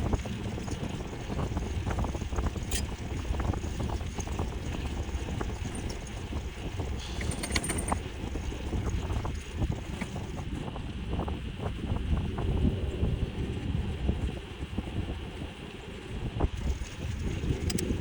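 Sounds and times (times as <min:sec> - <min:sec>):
e-bike rumble and rattles: 0:00.0 - 0:18.0
wind buffeting microphone: 0:00.0 - 0:18.0.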